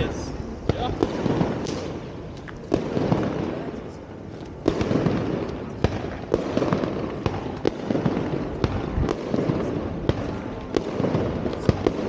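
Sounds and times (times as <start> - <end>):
fireworks bangs and pops: 0.0 - 12.0
fireworks crackling: 0.0 - 12.0.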